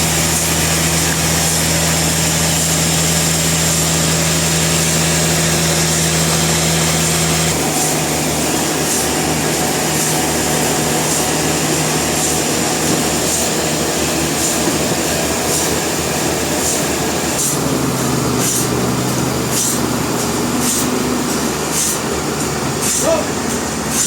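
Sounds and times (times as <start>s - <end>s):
sawmill saw cutting log: 0.0s - 24.0s.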